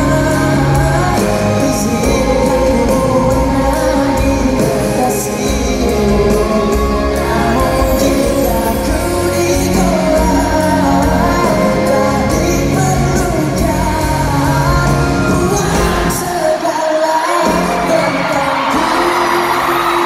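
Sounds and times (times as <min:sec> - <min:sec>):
live pop ballad with male vocal: 0:00.0 - 0:20.0.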